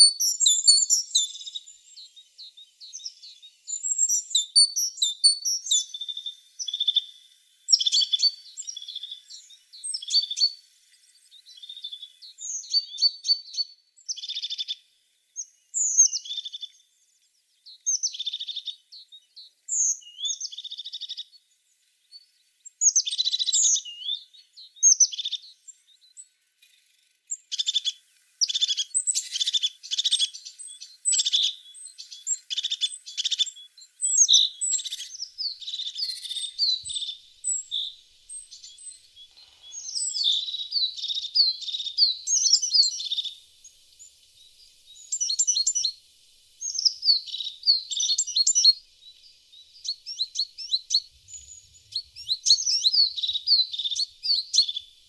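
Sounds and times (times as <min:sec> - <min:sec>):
tits singing and calling: 0:00.0 - 0:55.0.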